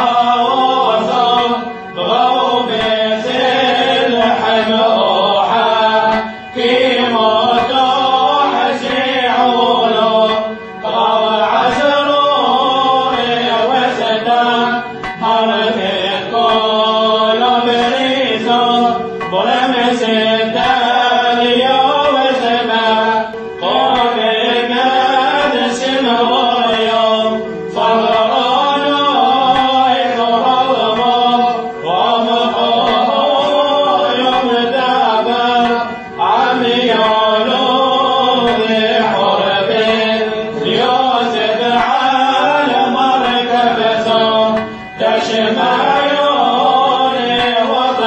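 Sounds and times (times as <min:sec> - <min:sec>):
chanted vocal melody: 0:00.0 - 0:48.0
steady drone: 0:00.0 - 0:48.0.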